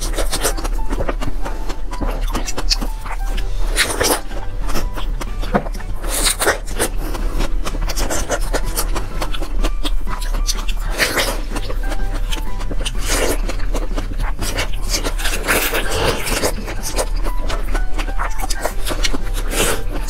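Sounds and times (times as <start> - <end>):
wet biting and chewing: 0.0 - 20.0.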